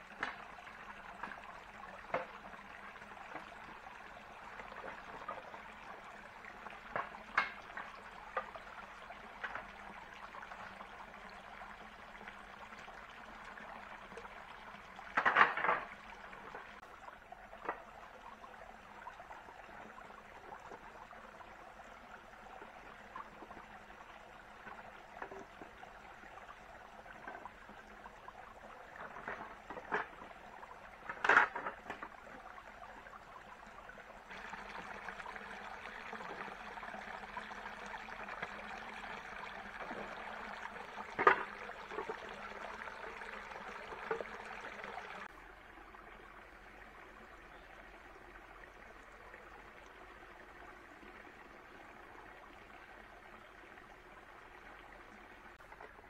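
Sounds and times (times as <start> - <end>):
trickle of running water: 0.0 - 56.0.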